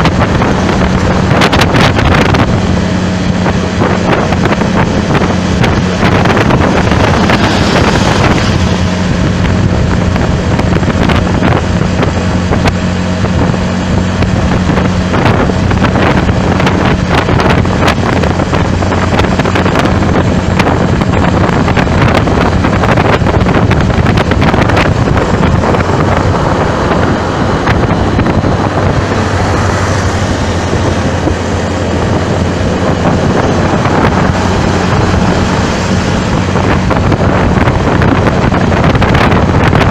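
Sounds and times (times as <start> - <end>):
moving vehicle hum: 0.0 - 39.9
wind buffeting microphone: 0.0 - 39.9.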